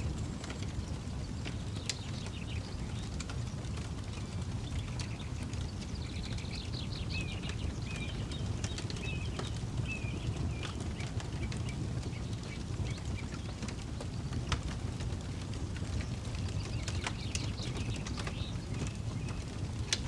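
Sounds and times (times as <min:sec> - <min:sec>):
bird chirping: 0:00.0 - 0:20.0
campfire crackling and popping: 0:00.0 - 0:20.0
low steady rumble: 0:00.0 - 0:20.0.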